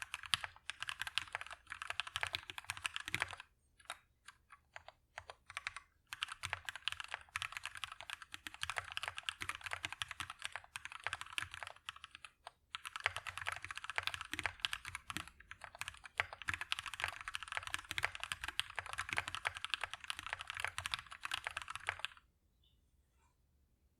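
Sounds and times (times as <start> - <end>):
fast mechanical keyboard typing: 0.0 - 22.2.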